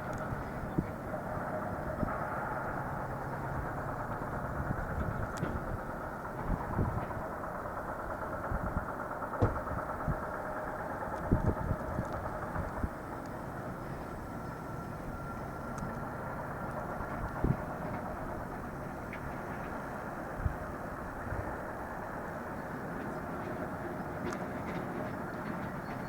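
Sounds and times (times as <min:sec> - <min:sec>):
heavy machinery humming: 0:00.0 - 0:26.0.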